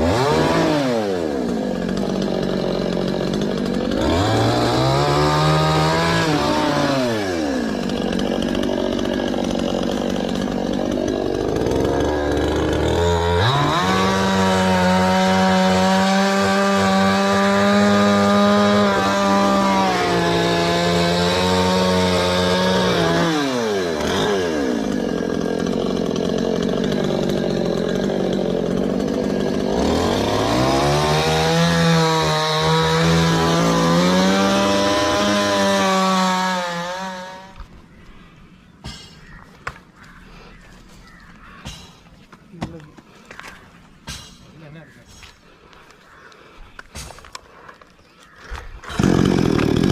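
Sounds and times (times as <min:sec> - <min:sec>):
chainsaw cutting wood: 0:00.0 - 0:37.8, 0:38.8 - 0:44.6, 0:46.8 - 0:49.9.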